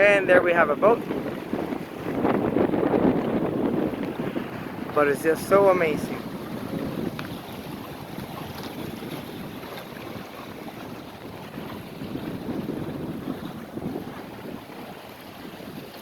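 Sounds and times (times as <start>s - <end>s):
wind rushing across microphone: 0.0s - 16.0s.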